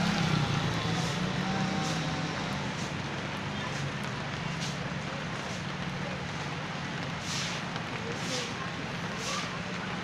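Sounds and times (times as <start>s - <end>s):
heavy rain hissing: 0.3s - 10.0s.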